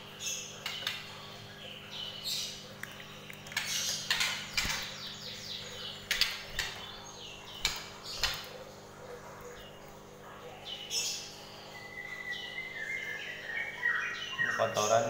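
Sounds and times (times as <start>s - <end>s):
bird chirping: 0.0s - 15.0s
steady low hum: 0.0s - 15.0s.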